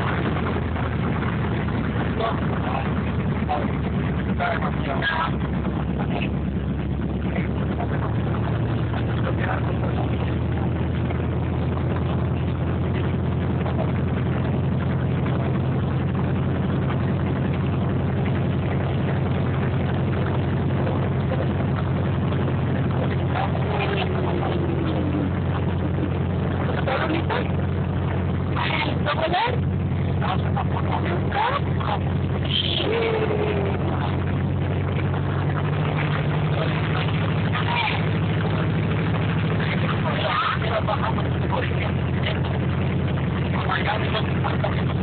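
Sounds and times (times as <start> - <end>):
airplane propeller engine droning: 0.0 - 45.0.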